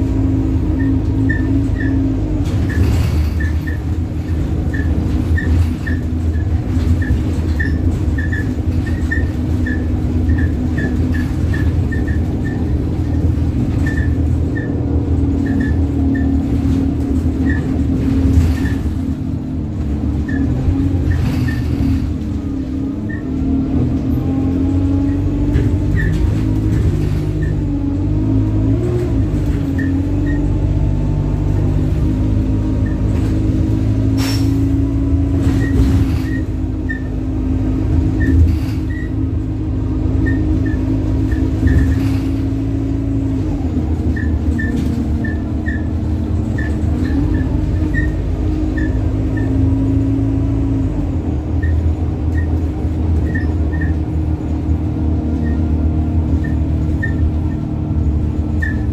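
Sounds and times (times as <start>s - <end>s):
bus engine drone: 0.0s - 58.9s
short high squeaks: 0.4s - 23.6s, 24.8s - 27.7s, 29.0s - 37.4s, 38.0s - 50.8s, 51.5s - 58.9s.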